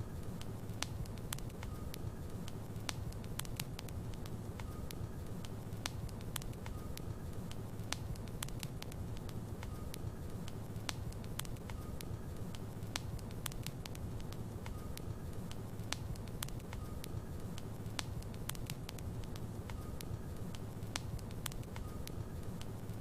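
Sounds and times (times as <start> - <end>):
fire crackles and pops: 0.0 - 23.0
low rumble of flames: 0.0 - 23.0.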